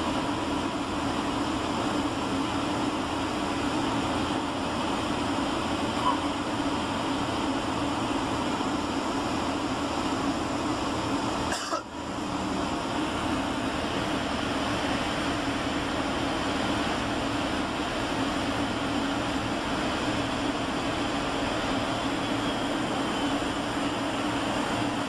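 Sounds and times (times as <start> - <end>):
airplane cabin roar: 0.0 - 25.0.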